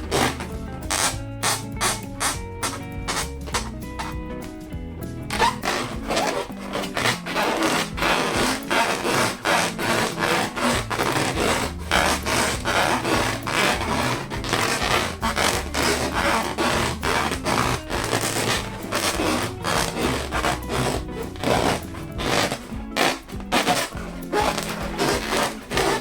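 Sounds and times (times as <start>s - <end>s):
balloons being rubbed: 0.0s - 4.2s, 5.2s - 26.0s.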